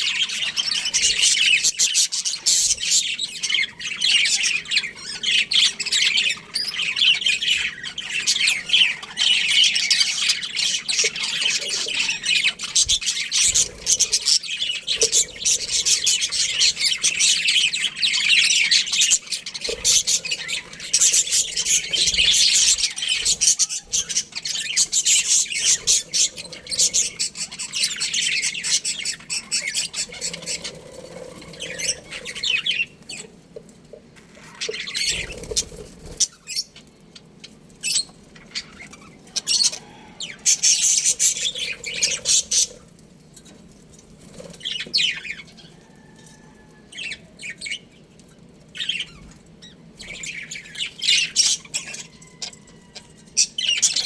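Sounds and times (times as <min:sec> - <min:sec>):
budgerigars chirping and chattering: 0:00.0 - 0:33.4, 0:34.1 - 0:54.0.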